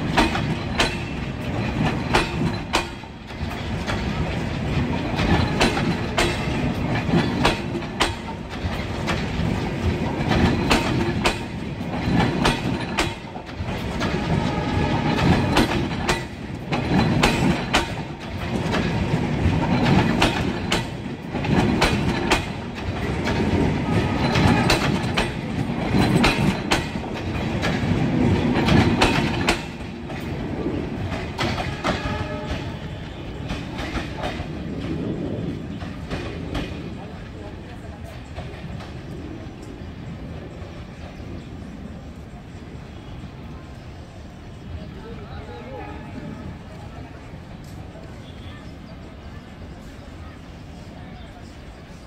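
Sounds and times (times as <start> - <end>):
train wheels clattering over rail joints: 0.0 - 43.2.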